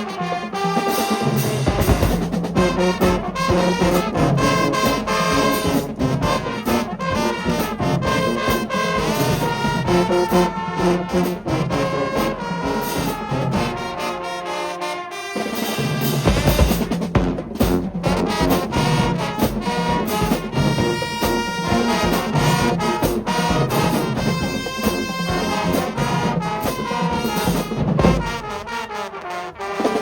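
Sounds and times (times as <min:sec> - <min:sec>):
band playing brass and drums: 0:00.0 - 0:30.0.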